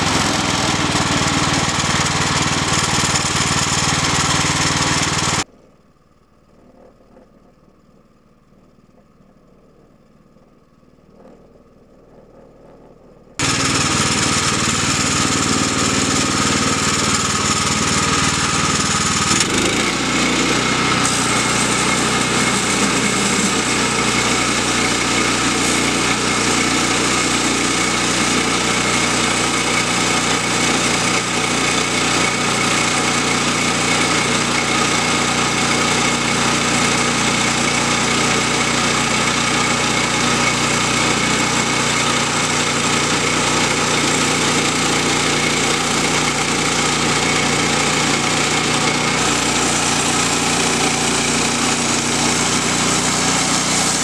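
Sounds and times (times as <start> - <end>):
sawmill engine running: 0.0 - 5.5, 13.4 - 54.0.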